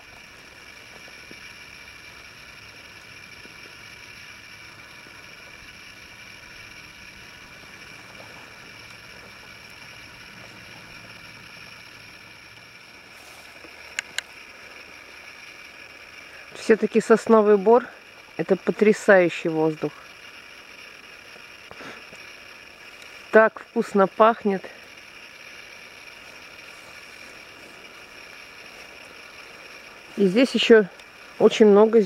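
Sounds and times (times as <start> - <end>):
faint forest hiss: 0.0 - 32.0
thin steady tones: 0.0 - 32.0.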